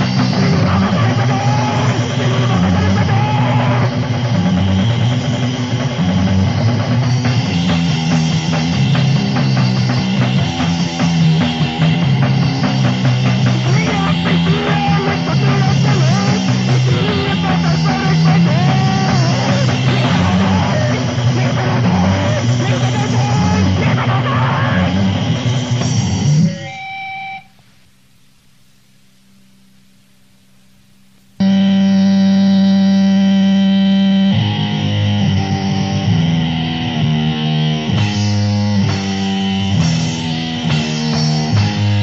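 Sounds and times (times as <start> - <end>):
punk rock with drum kit: 0.0 - 27.6, 31.4 - 42.0.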